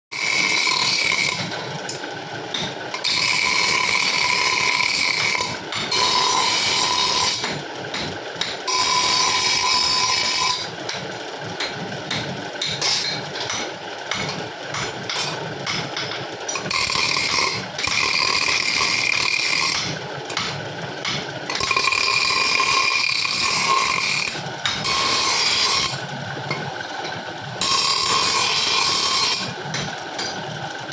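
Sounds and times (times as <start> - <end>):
power tool whining: 2.5 - 11.0, 11.6 - 26.6, 27.6 - 30.9.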